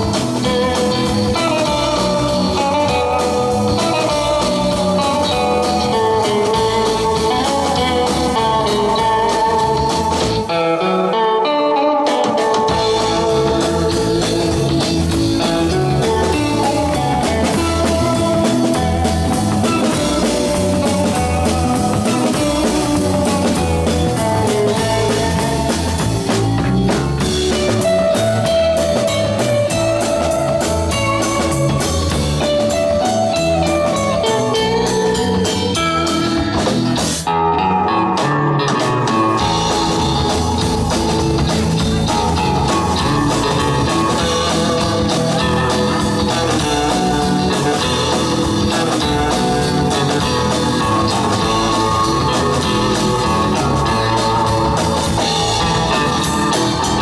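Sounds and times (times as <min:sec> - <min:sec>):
bass: 0:00.0 - 0:57.0
drum kit: 0:00.0 - 0:57.0
lead guitar: 0:00.0 - 0:57.0.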